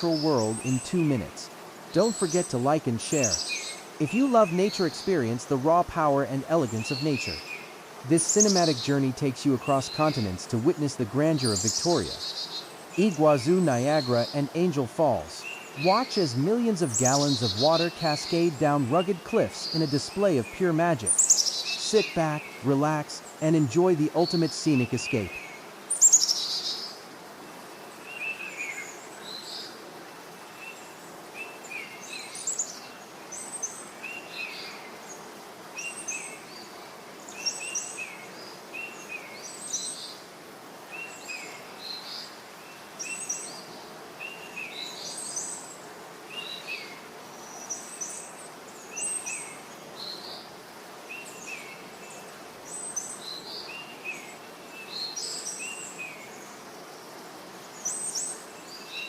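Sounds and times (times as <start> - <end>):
birds chirping: 0.0 - 29.8, 40.9 - 59.0
soft outdoor hiss: 0.0 - 59.0.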